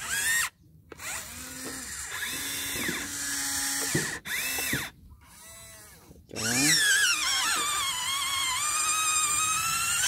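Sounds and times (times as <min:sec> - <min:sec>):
small electric motors whining: 0:00.0 - 0:10.0.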